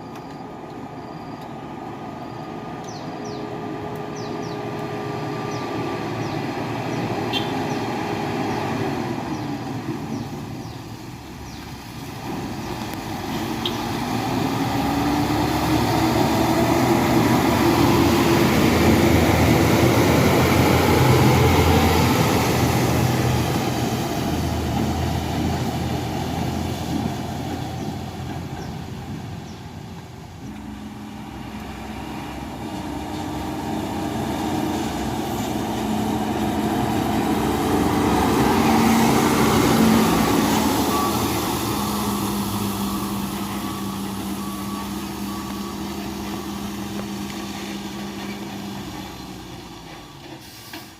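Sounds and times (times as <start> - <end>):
dump trucks driving past: 0.0 - 50.9.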